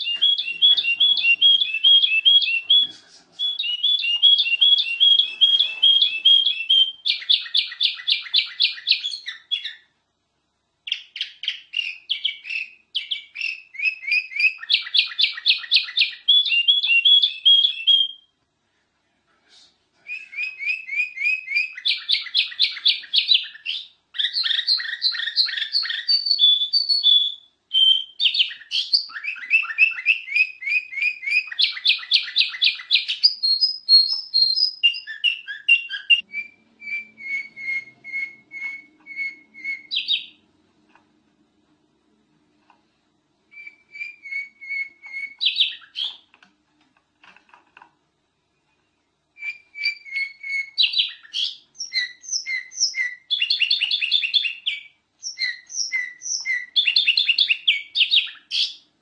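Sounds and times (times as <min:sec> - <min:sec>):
bird singing high chirps: 0:00.0 - 0:09.9, 0:10.8 - 0:18.3, 0:20.1 - 0:40.4, 0:43.5 - 0:46.3, 0:49.3 - 0:58.9.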